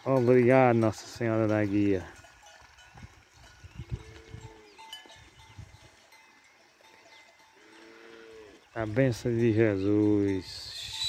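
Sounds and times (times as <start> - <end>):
faint cattle bells clanking: 0.0 - 11.0.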